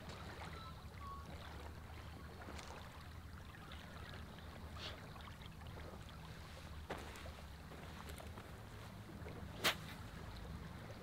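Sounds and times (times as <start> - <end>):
small waves lapping: 0.0 - 11.0.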